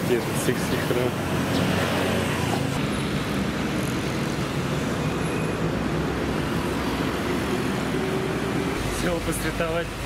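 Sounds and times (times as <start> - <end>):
motorbikes driving by: 0.0 - 9.2
cars driving by: 0.0 - 10.0.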